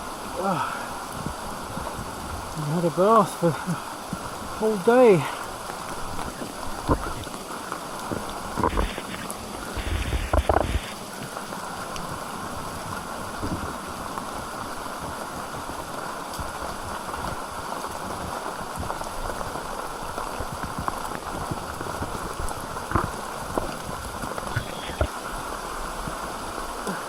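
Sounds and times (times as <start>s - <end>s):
water rushing over rocks: 0.0s - 27.0s.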